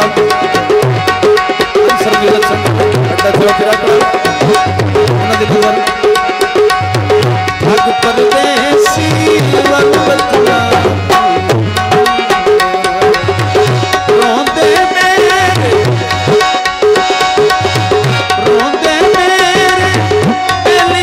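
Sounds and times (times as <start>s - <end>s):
hand drums fast rhythm: 0.0s - 21.0s
held melodic notes: 0.0s - 21.0s.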